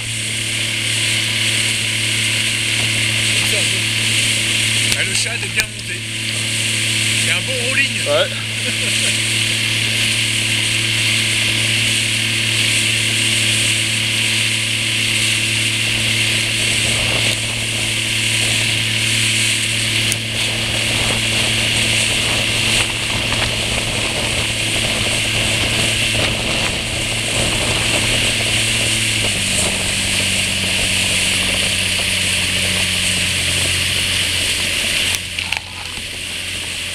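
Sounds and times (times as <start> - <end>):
hiss of churning wake: 0.0 - 36.9
motorboat engine running: 0.0 - 36.9.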